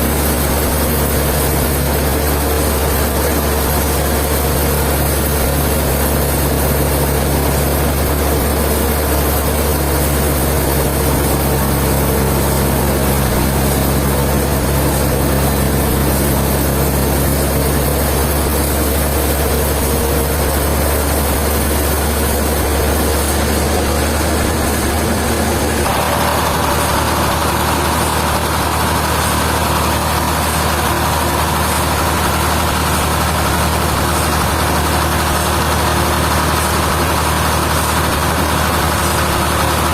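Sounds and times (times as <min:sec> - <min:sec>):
heavy machinery engine drone: 0:00.0 - 0:39.9
mid-pitched hum: 0:00.0 - 0:39.9.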